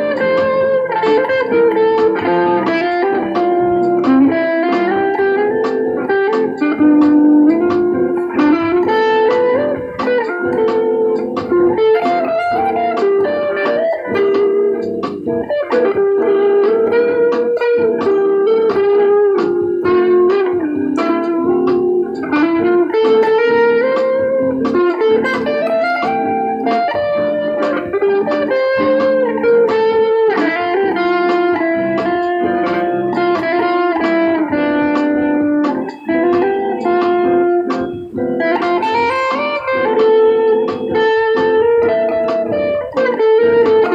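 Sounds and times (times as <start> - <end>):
electric guitar improvising: 0.0 - 43.9.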